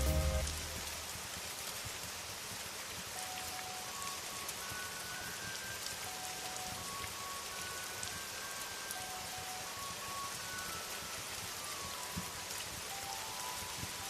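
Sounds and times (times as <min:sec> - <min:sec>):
faint melody of held notes: 0:00.0 - 0:01.2, 0:03.2 - 0:14.0
steady rain falling: 0:00.0 - 0:14.0.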